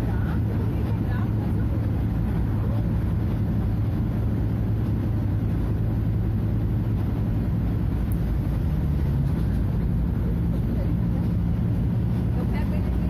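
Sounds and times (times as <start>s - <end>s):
diesel bus engine droning: 0.0s - 13.0s.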